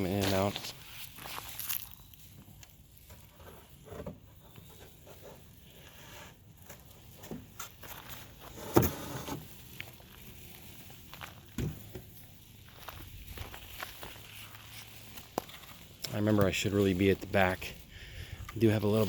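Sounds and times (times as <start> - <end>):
person moving on foot: 0.0 - 19.0
rustling: 0.0 - 19.0.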